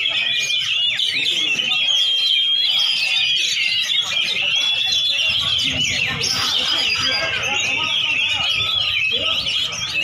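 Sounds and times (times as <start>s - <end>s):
birds chirping and trilling: 0.0s - 10.0s.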